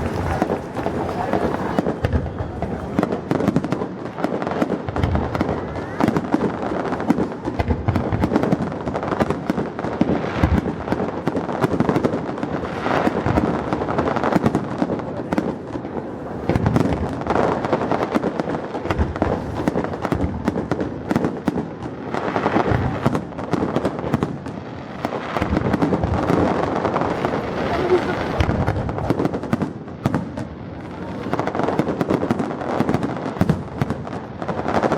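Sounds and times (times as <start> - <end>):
fireworks barrage: 0.0 - 34.9.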